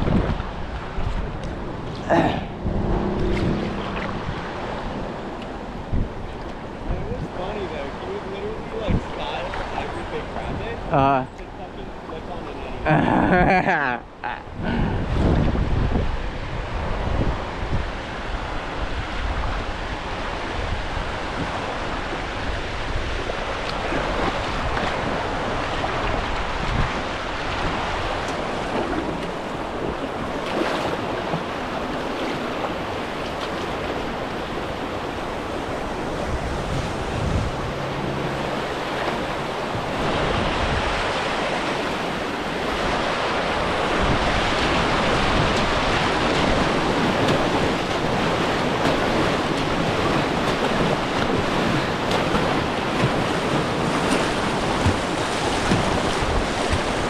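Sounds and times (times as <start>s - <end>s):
wind buffeting microphone: 0.0s - 11.7s, 14.4s - 57.0s
river water rushing: 0.0s - 57.0s.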